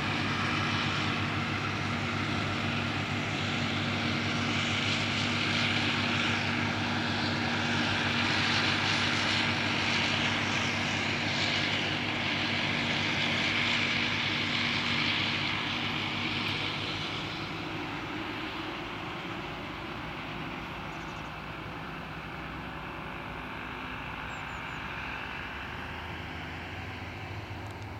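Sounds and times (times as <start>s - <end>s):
harvester engine drone: 0.0s - 27.9s.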